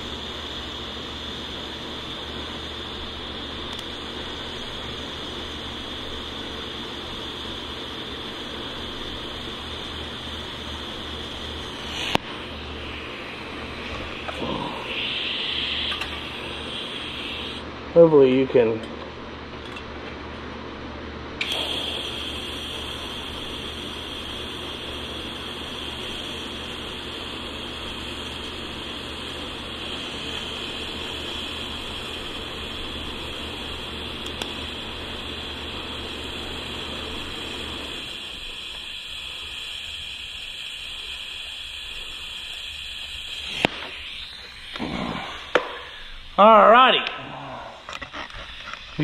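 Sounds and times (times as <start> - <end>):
welding arc buzzing: 0.0 - 18.8, 21.4 - 49.0.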